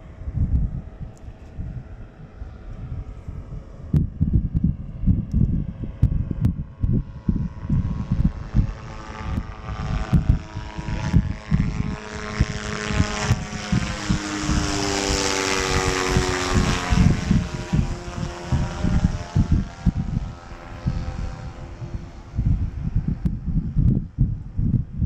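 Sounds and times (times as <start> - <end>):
propeller plane flying over: 0.0 - 25.0
wind buffeting microphone: 0.0 - 25.0.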